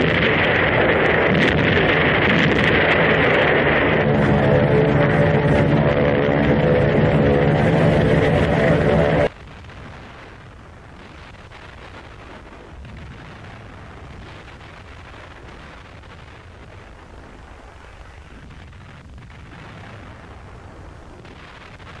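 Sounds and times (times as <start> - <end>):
steady low rumble: 0.0 - 18.3.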